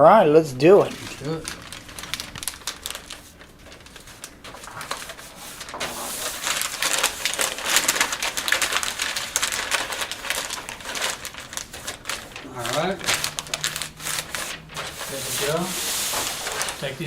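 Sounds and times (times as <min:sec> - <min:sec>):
packing material crinkling: 0:00.6 - 0:17.0.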